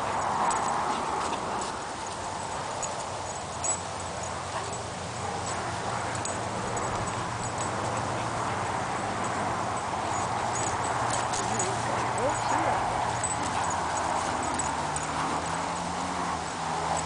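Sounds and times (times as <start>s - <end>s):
chain collar clinking: 0.0s - 17.0s
dogs breathing and play noises: 0.0s - 17.0s.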